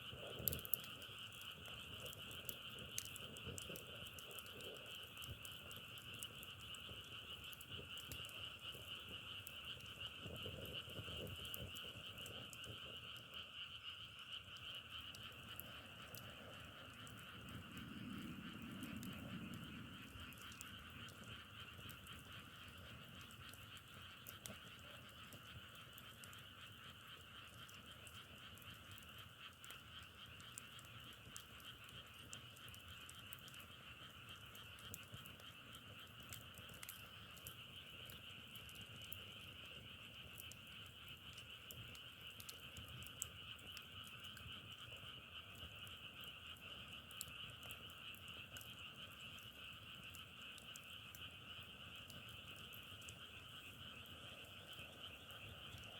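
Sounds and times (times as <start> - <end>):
frogs trilling: 0.0 - 55.9
faint clicks: 0.1 - 55.9.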